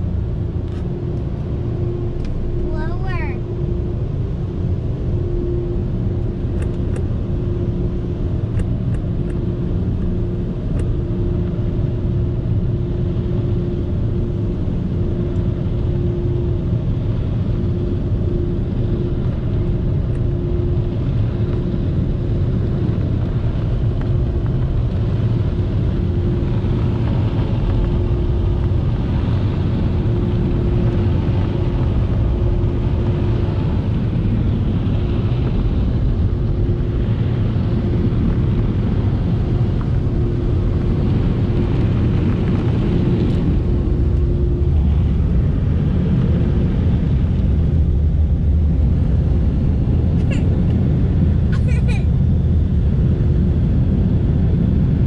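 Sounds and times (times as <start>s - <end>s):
car wash machinery and water rumble: 0.0s - 55.0s
dryer blowers rushing air: 0.0s - 55.0s
steady hum: 0.0s - 55.0s.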